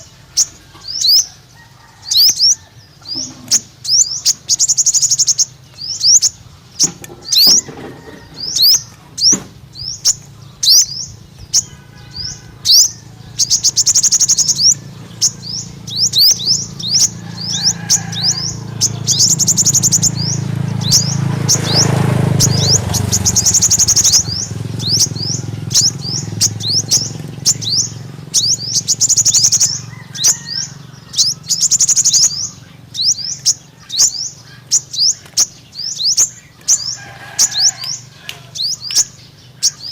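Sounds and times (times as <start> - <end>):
fast rattling bird trills: 0.0 - 39.9
thin high bird chirps: 2.0 - 39.9
low background rumble: 2.3 - 39.9.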